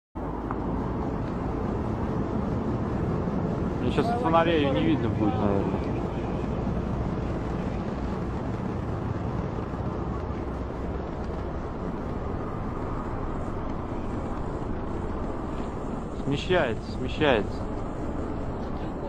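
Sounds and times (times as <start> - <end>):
aircraft cabin rumbling: 0.2 - 19.0.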